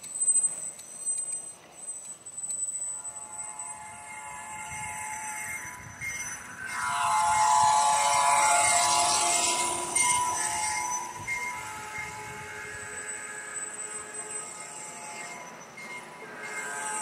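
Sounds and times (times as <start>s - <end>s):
steady high tones: 0.3s - 17.0s.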